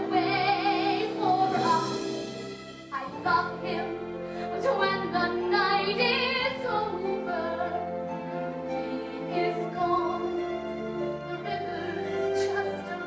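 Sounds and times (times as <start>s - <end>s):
pit orchestra: 0.0s - 13.0s.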